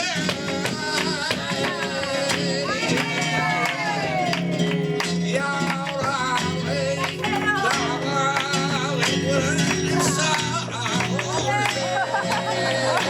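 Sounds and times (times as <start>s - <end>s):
acoustic flamenco guitar: 0.0s - 13.0s.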